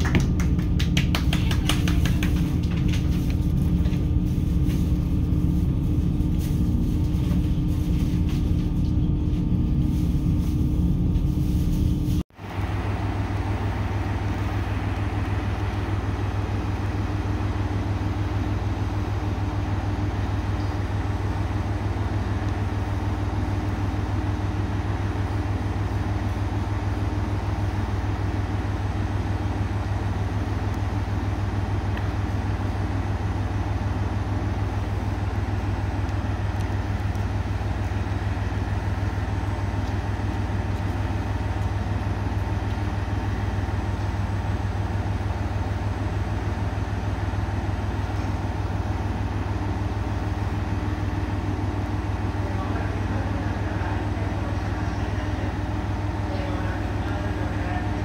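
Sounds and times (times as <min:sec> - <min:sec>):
diesel railcar engine idling: 0:00.0 - 0:58.0.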